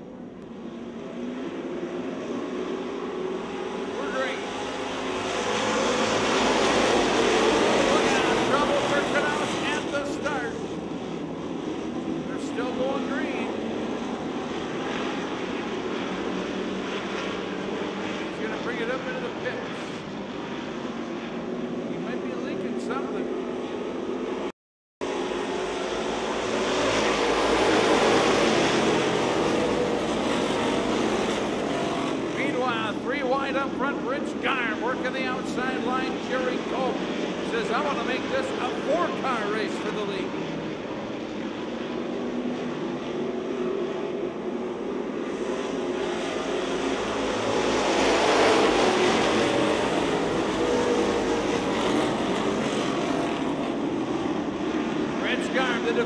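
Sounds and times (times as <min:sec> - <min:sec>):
drone of race car engines: 0:00.0 - 0:56.0.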